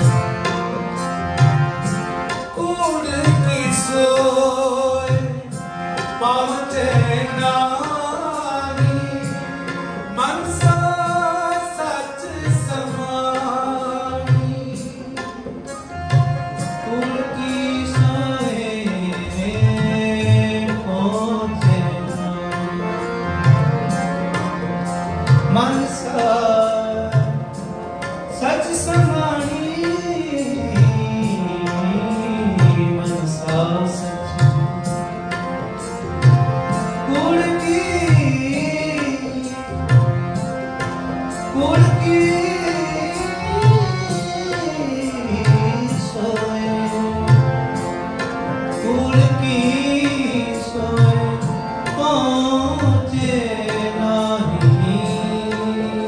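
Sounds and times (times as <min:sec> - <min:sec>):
harmonium: 0:00.0 - 0:56.0
tabla playing: 0:00.0 - 0:56.0
man singing: 0:02.5 - 0:23.2, 0:25.4 - 0:27.6, 0:28.3 - 0:35.0, 0:36.9 - 0:40.4, 0:41.3 - 0:48.0, 0:48.6 - 0:56.0.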